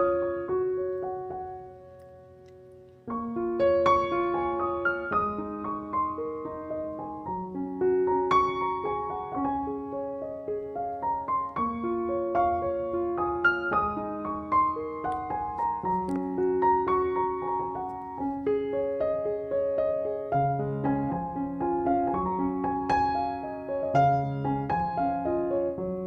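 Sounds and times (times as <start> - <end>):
piano melody of held notes: 0.0 - 26.0.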